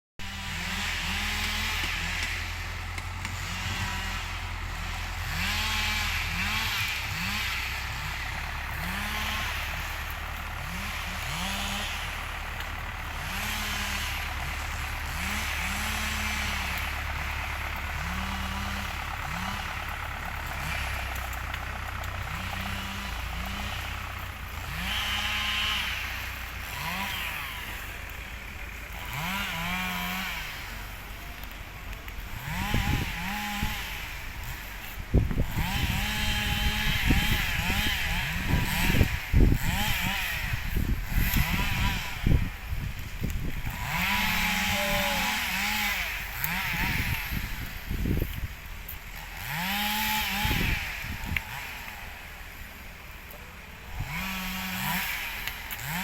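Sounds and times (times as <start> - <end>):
engine droning: 0.2 - 56.0.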